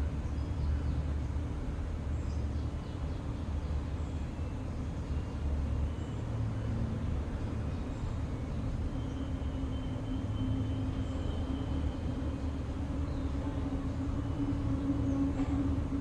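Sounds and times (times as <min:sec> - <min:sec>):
droning hum: 0:00.0 - 0:16.0
low mechanical rumble: 0:00.0 - 0:16.0.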